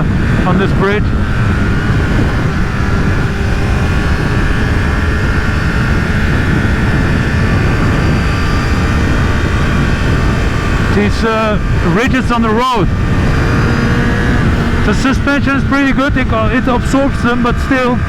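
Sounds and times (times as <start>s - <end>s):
motorcycle engine steady note: 0.0s - 18.0s
wind buffeting microphone: 0.0s - 18.0s.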